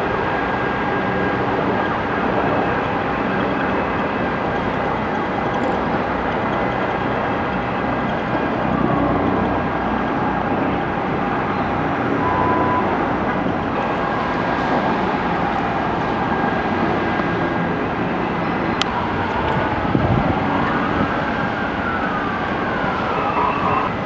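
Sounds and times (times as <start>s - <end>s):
urban traffic noise: 0.0s - 24.0s.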